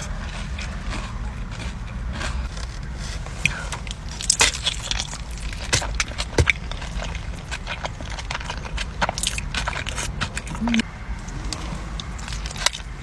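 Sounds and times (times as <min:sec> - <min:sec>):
low background hum: 0:00.0 - 0:13.0
person chewing crunchy food: 0:00.0 - 0:13.0.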